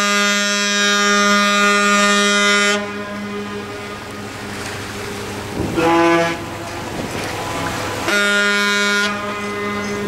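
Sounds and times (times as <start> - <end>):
ship's horn blasts: 0.0 - 10.0
engine hum: 0.7 - 10.0.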